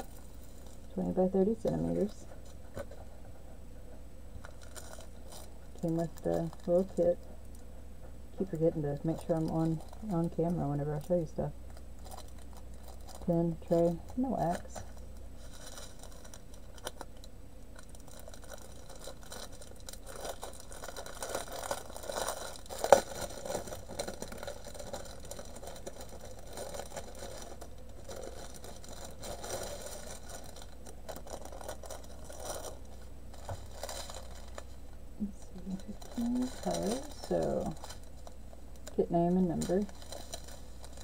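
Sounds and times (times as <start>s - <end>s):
low hum: 0.0s - 41.0s
plastic packaging crinkling: 4.4s - 7.6s, 8.4s - 41.0s.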